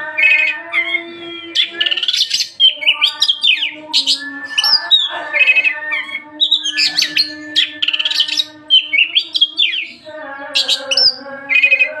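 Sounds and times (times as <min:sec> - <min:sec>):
bird singing whistles and trills: 0:00.2 - 0:12.0.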